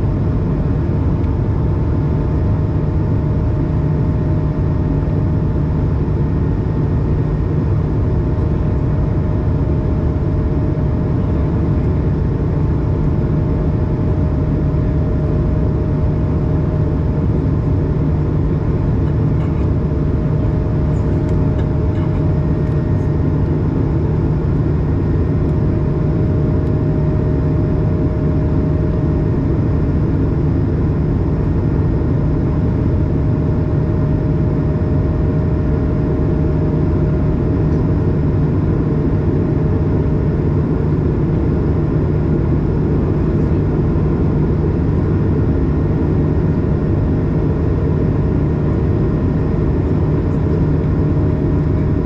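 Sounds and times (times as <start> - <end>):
constant humming tone: 0.0 - 52.0
jet engine and air rush in cabin: 0.0 - 52.0.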